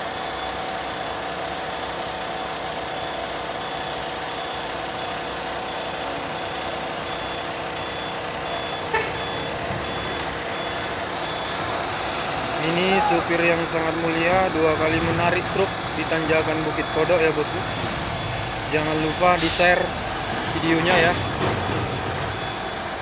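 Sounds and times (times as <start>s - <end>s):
truck engines running: 0.0s - 23.0s
truck reversing alarm beeping: 0.0s - 23.0s.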